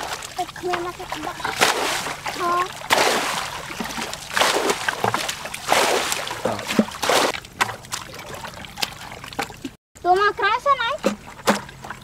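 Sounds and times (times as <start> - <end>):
muddy water sloshing and splashing: 0.0 - 12.0
water dripping: 0.0 - 12.0.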